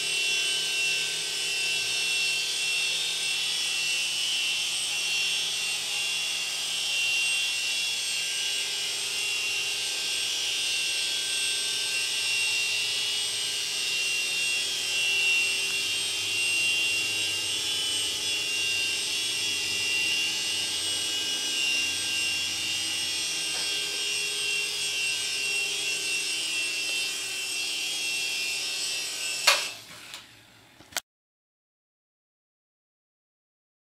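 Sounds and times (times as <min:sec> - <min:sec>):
toy helicopter rotors whining: 0:00.0 - 0:30.0.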